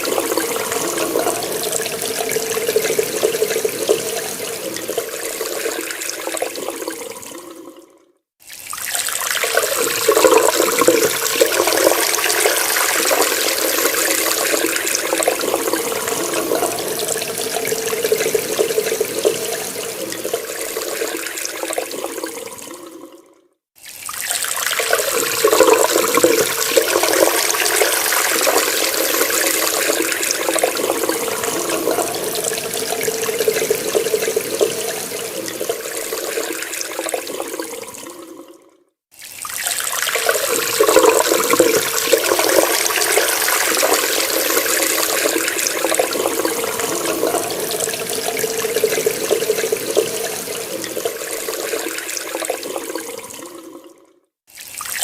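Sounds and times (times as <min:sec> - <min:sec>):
tap water running and splashing: 0:00.0 - 0:23.2, 0:23.8 - 0:55.0.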